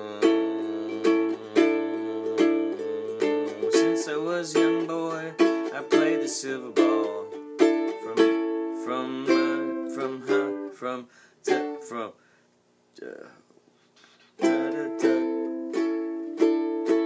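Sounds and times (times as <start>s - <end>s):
acoustic strings strummed in chords: 0.0s - 12.0s, 14.4s - 17.0s.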